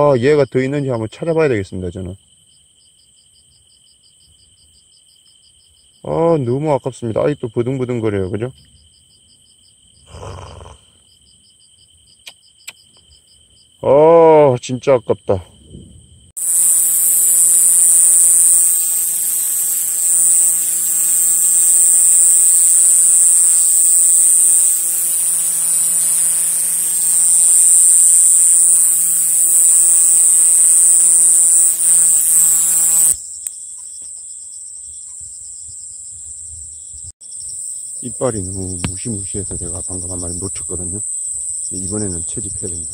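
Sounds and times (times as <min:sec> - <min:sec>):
katydid high-pitched buzz: 0:00.0 - 0:42.9.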